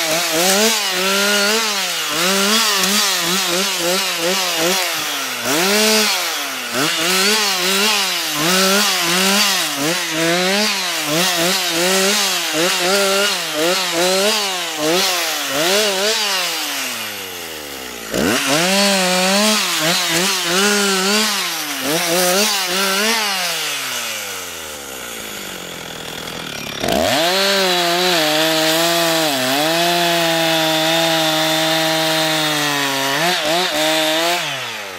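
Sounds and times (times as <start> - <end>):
chainsaw revving and cutting: 0.0 - 34.9.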